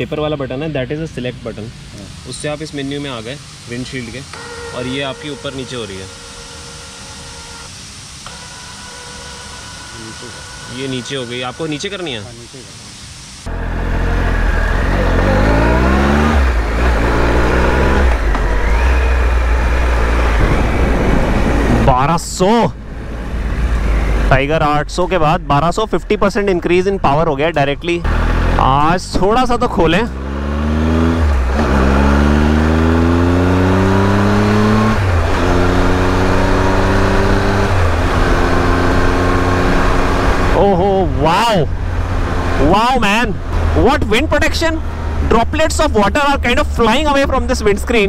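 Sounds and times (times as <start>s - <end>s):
motorcycle engine accelerating: 1.8s - 12.3s, 13.5s - 25.6s, 28.0s - 48.0s.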